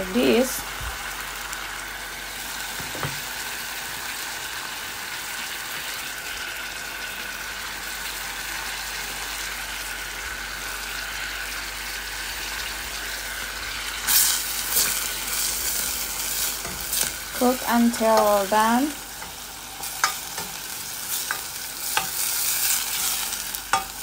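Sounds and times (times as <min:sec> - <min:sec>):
meat and onion sizzling in butter: 0:00.0 - 0:24.0.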